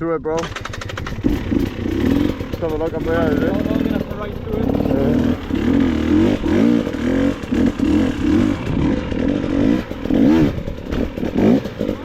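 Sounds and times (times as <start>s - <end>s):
dirt bike engine revving: 0.4s - 12.0s.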